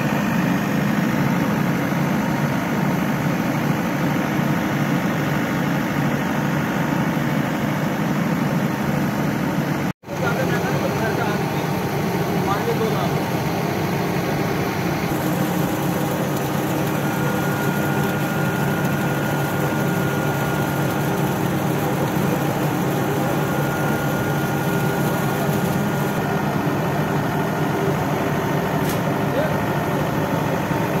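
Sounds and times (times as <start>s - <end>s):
fan rushing hum: 0.0s - 31.0s.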